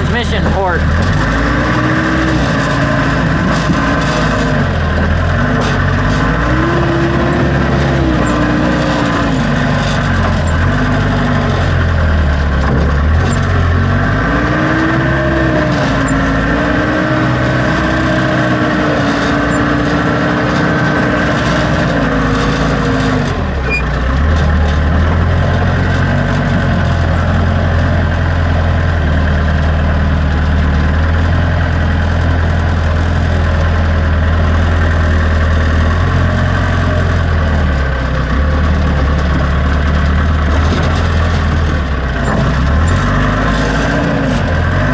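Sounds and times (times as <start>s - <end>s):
backhoe loader engine running: 0.0s - 44.9s.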